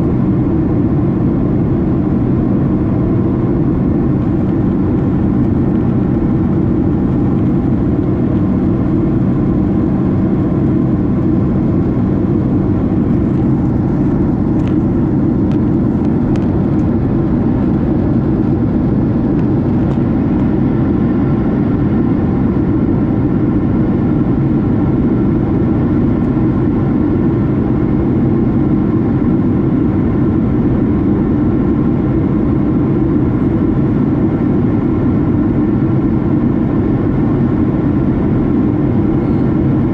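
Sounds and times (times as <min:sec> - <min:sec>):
aircraft engine and airflow drone: 0:00.0 - 0:39.9.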